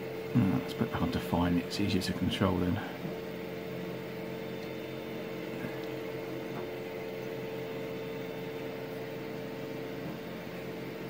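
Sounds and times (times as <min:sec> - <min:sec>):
cooling fan: 0:00.0 - 0:11.0
mains hum: 0:00.0 - 0:11.0.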